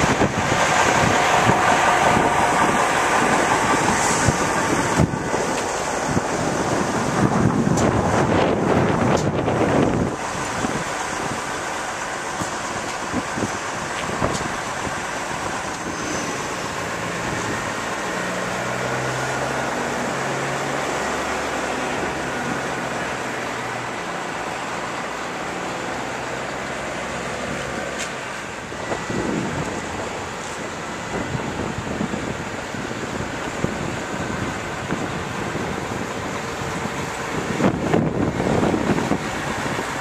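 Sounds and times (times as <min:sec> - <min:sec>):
wind on microphone: 0:00.0 - 0:11.6, 0:12.3 - 0:24.0, 0:26.8 - 0:40.0
crane engine running: 0:00.0 - 0:40.0.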